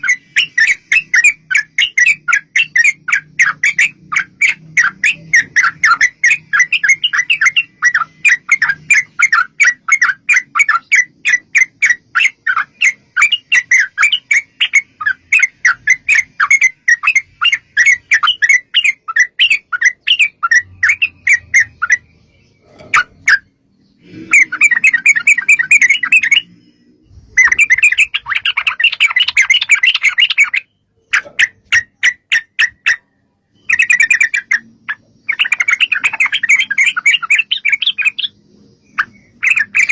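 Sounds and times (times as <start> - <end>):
bulbul rattling calls: 0.0 - 33.0, 33.6 - 39.9.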